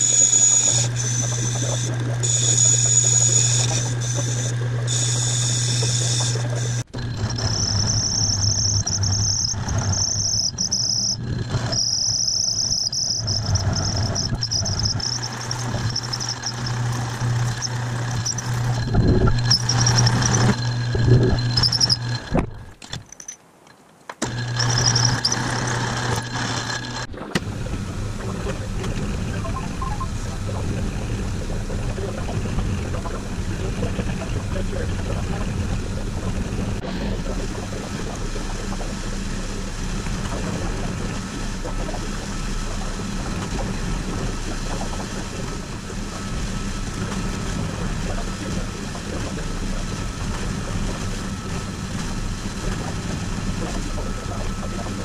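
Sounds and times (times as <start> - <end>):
cutting tool high whine: 0.0 - 22.8, 24.2 - 55.0
lathe motor hum: 0.0 - 22.8, 24.2 - 55.0
milling machine running: 0.0 - 22.9, 24.2 - 55.0.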